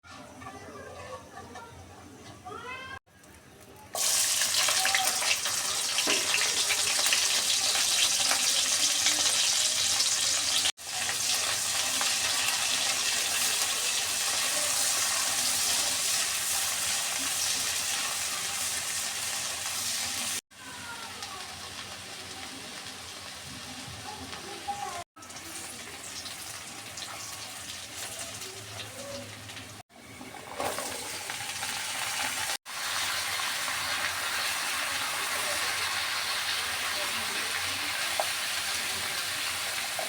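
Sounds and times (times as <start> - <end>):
pumpkin sizzling in hot oil: 3.9 - 40.0.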